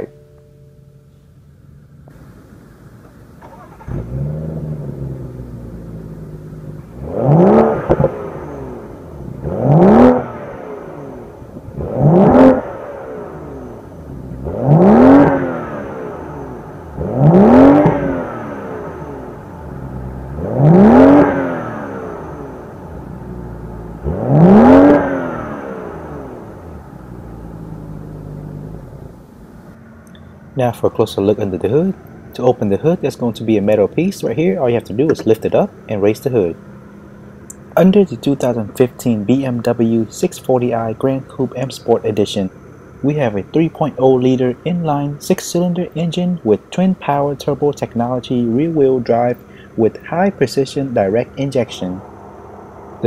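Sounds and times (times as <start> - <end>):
car exhaust idling and revving: 0.0 - 53.0.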